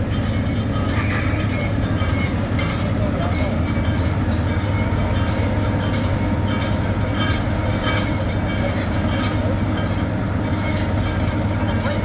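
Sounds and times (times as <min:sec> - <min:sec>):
construction machinery engine hum: 0:00.0 - 0:12.0.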